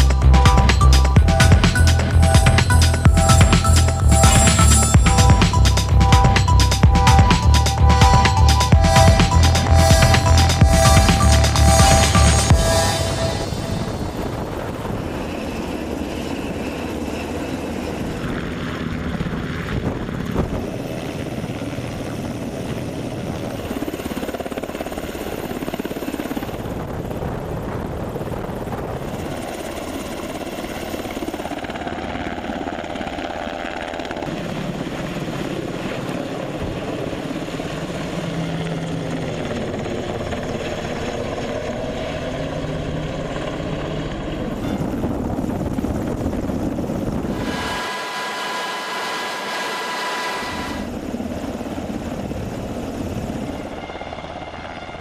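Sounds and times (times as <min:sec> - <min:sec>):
helicopter rotor and engines: 0:00.0 - 0:55.0.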